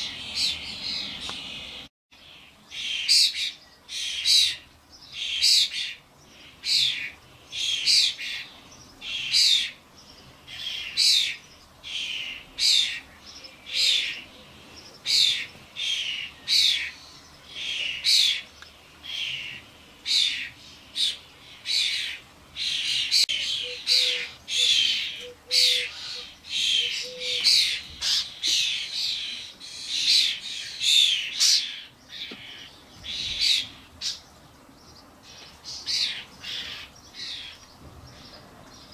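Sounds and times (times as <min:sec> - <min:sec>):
starlings harsh rasping calls: 0:00.0 - 0:34.4, 0:35.2 - 0:38.3.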